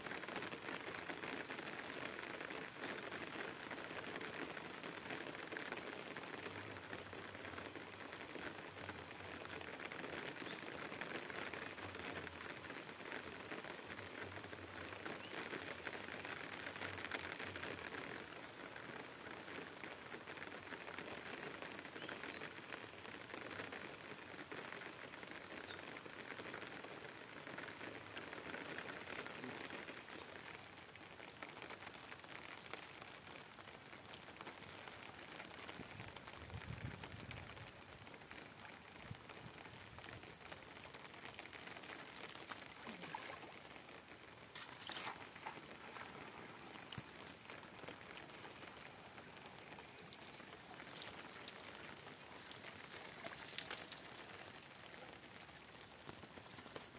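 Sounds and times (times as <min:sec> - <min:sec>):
light rain pattering: 0:00.0 - 0:56.9.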